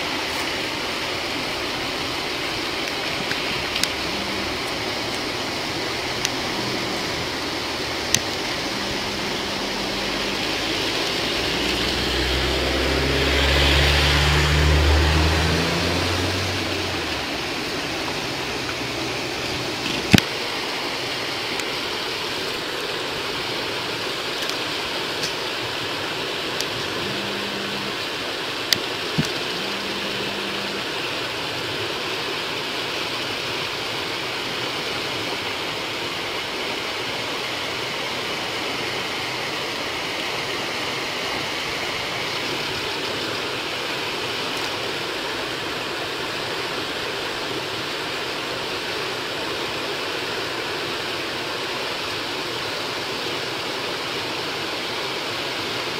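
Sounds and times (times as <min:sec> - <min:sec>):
flowing water rushing: 0:00.0 - 0:55.9.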